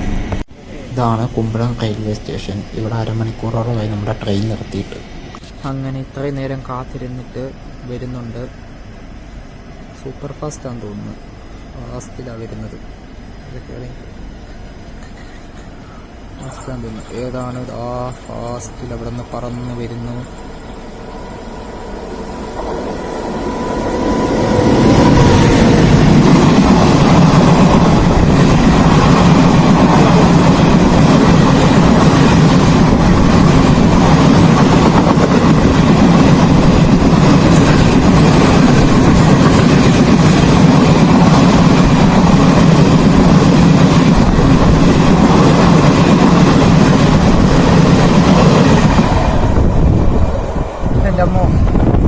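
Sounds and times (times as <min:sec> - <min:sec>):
express train passing: 0:00.0 - 0:52.0.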